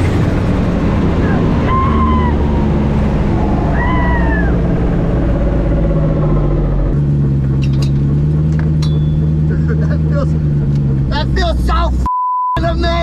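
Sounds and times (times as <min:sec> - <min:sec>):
car engine running loudly: 0:00.0 - 0:13.0.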